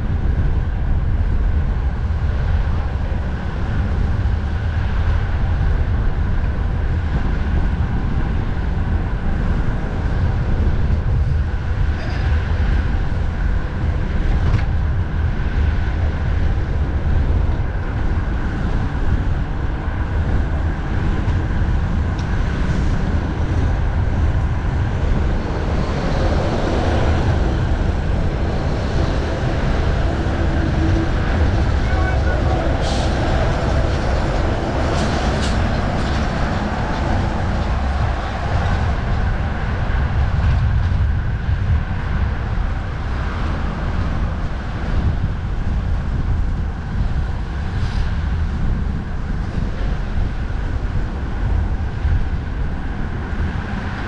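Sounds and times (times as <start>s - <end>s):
heavy highway traffic: 0.0s - 54.0s
wind rumble on microphone: 0.0s - 54.0s.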